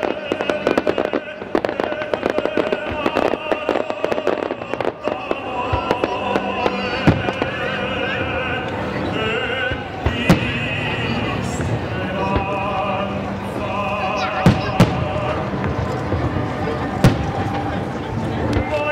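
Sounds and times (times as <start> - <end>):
music with singing voice: 0.0 - 17.1, 18.2 - 18.9
fireworks bursting and crackling: 0.0 - 18.9.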